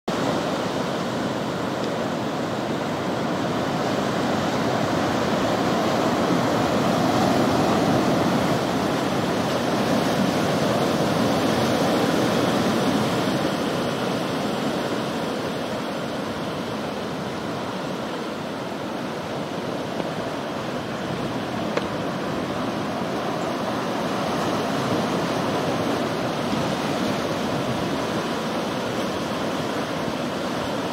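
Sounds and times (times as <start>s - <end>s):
ocean surf breaking: 0.1s - 30.9s.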